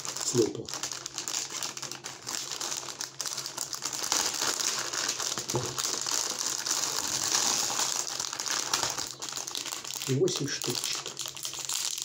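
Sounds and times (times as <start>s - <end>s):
plastic wrapper crackling: 0.0s - 12.0s.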